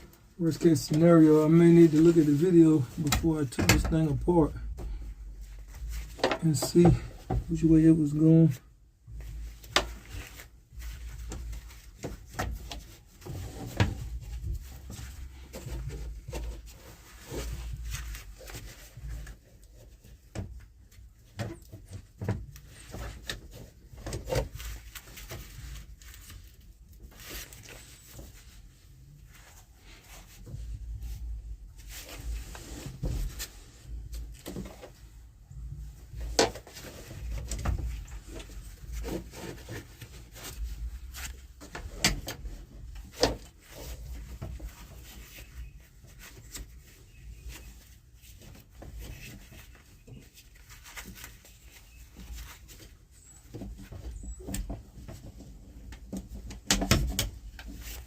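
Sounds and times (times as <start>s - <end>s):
cable rubbing and handling: 0.0s - 58.0s.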